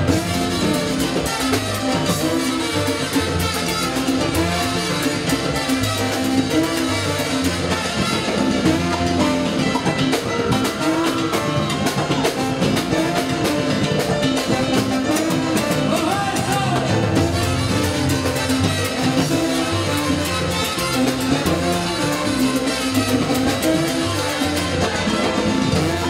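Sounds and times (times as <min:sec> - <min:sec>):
congas and timbales: 0:00.0 - 0:26.0
salsa band playing: 0:00.0 - 0:26.0
trombones: 0:00.0 - 0:26.0.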